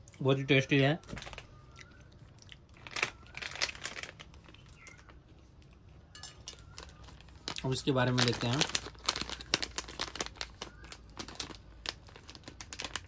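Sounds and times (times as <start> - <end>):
plastic wrappers crinkling: 0.6 - 13.0.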